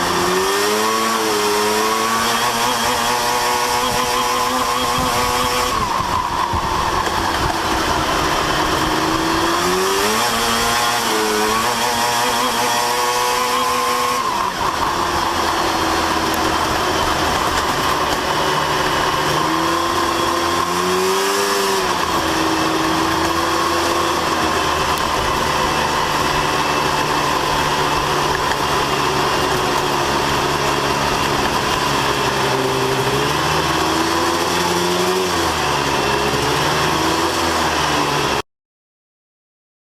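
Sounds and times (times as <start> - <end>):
race truck engines revving: 0.0 - 38.4.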